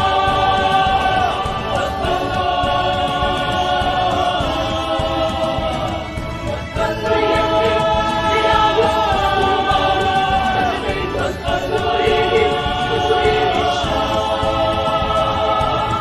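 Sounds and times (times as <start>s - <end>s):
backing music: 0.0s - 16.0s
voices singing worship song: 0.0s - 16.0s.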